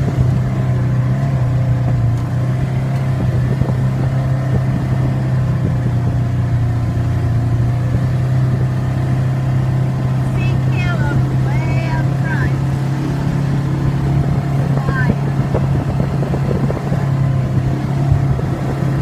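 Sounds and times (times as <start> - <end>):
quad bike engine humming: 0.0 - 19.0.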